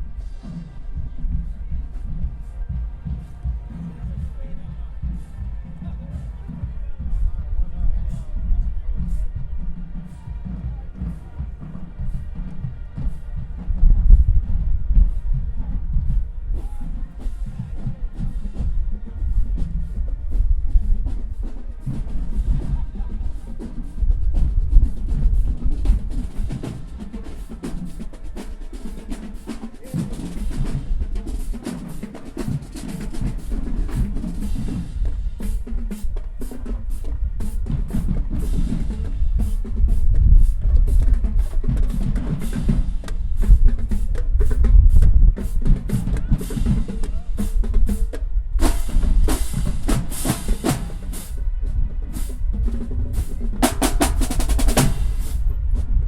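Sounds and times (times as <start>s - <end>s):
pounding bass drums: 0.0s - 56.0s
snare drum strokes and rolls: 0.0s - 56.0s.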